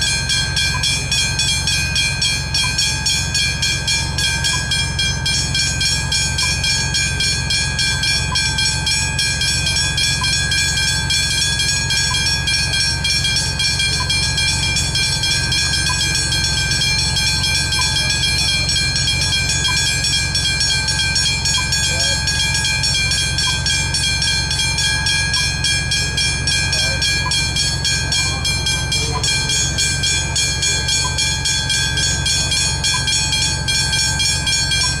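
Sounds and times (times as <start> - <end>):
constant low rumble: 0.0 - 35.0
level crossing warning bells: 0.0 - 35.0.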